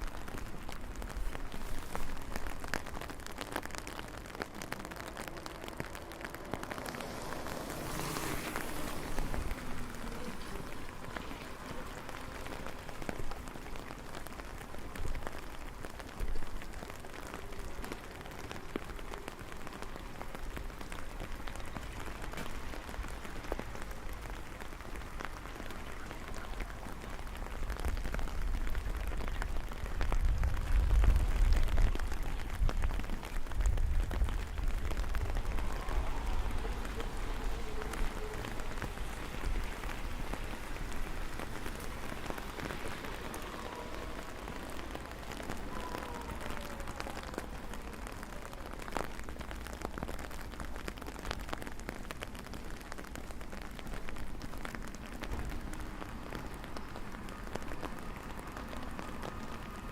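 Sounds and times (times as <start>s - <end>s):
raindrops ticking close by: 0.0s - 59.9s
steady rain falling: 0.0s - 59.9s.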